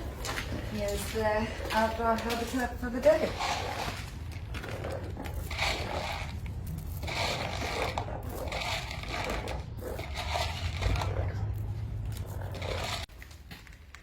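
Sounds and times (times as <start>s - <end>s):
steady low rumble: 0.0s - 13.1s
crunching and scraping: 0.0s - 14.0s.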